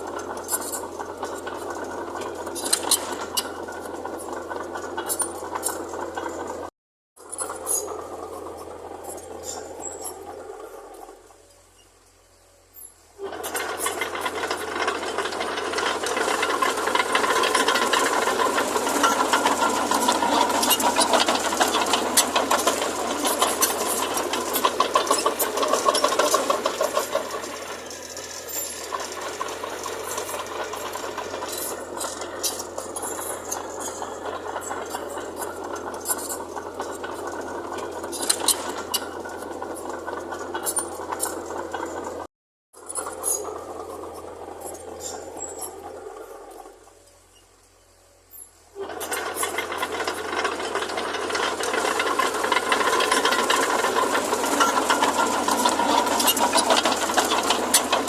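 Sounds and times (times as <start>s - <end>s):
metallic rattle and clatter: 0.0s - 12.0s, 12.7s - 58.0s
diesel engine running: 0.0s - 58.0s.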